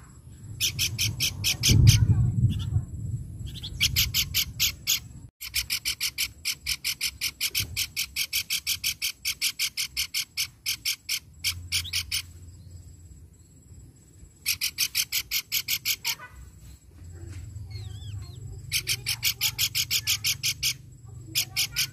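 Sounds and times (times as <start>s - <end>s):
bird calling rapid harsh notes: 0.6s - 2.8s, 3.4s - 12.4s, 14.4s - 16.5s, 17.7s - 21.9s.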